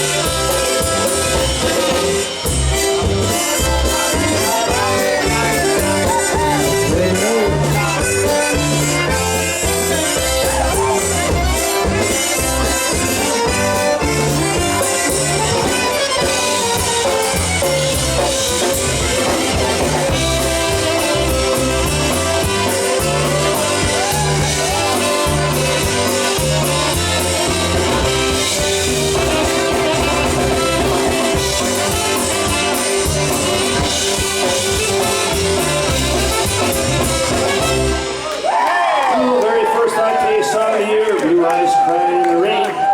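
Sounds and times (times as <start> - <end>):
polka band playing: 0.0 - 39.2.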